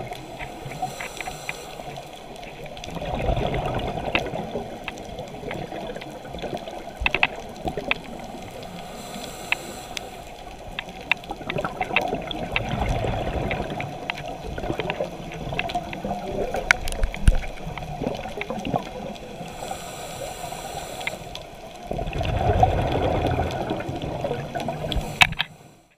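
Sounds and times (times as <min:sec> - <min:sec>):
sharp underwater clicks: 0:00.0 - 0:25.6
scuba regulator bubbling rumble: 0:00.0 - 0:25.7
muffled underwater water rush: 0:00.0 - 0:25.9.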